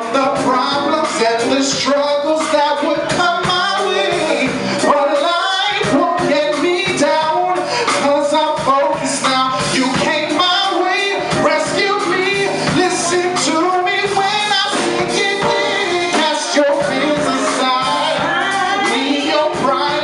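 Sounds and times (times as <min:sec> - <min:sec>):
band with drums: 0:00.0 - 0:20.0
woman singing gospel: 0:00.5 - 0:20.0.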